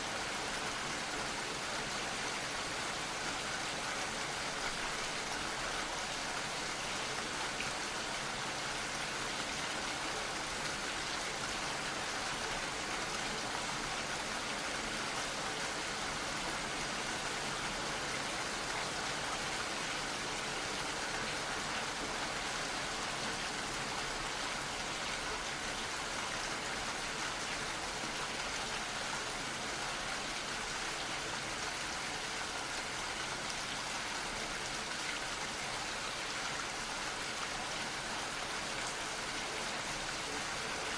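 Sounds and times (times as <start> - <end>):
gentle rain hiss: 0.0 - 40.9.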